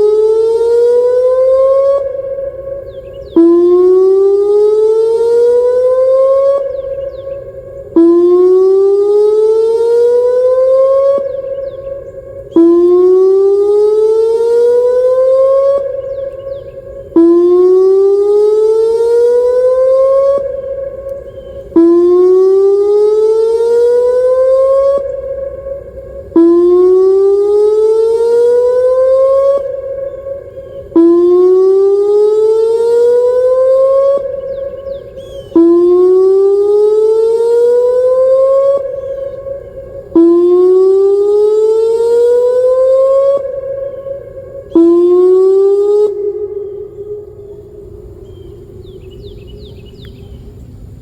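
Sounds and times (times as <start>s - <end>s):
warning siren whooping: 0.0s - 50.3s.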